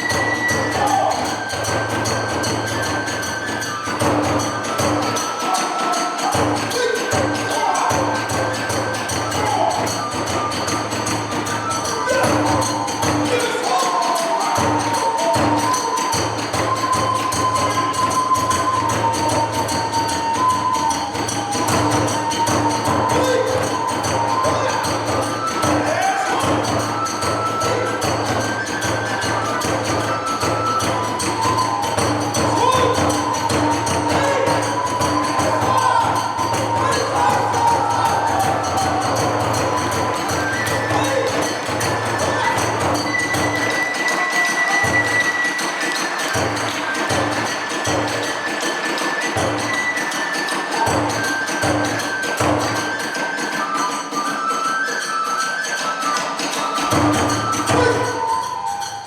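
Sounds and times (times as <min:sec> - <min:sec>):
taiko drumbeats: 0:00.0 - 0:54.3, 0:56.5 - 0:58.8
bamboo flute melody: 0:00.0 - 0:59.0
small hand cymbals clashing: 0:00.0 - 0:59.0.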